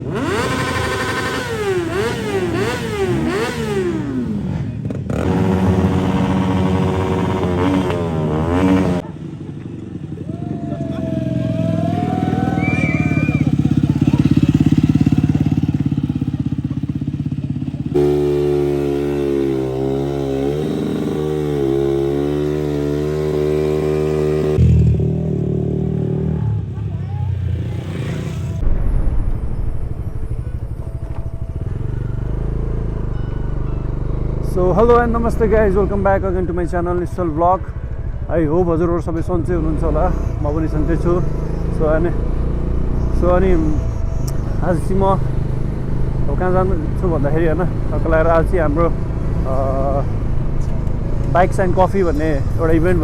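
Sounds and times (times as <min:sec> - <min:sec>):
motorcycle engine revving: 0:00.0 - 0:28.7, 0:30.7 - 0:53.0.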